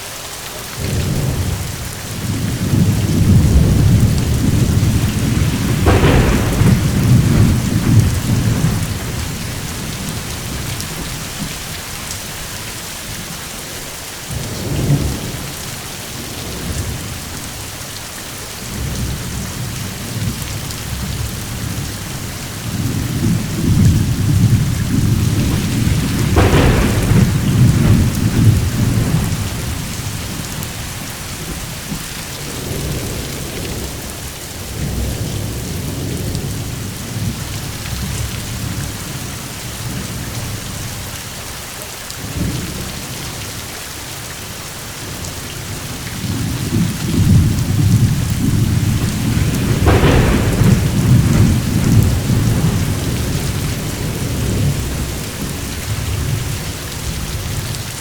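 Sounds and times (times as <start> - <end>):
steady rain: 0.0 - 58.0
rolling thunder: 0.8 - 17.8, 18.6 - 41.2, 45.0 - 58.0.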